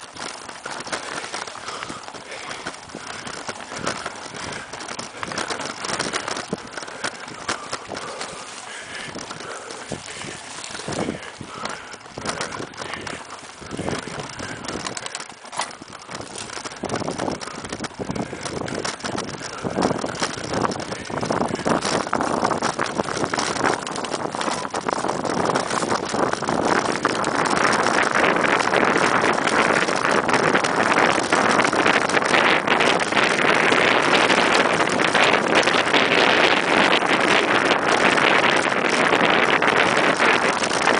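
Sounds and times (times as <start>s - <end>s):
mountain bike rattling: 0.0s - 40.9s
tyres on dirt trail: 0.0s - 40.9s
wind on microphone: 0.0s - 40.9s.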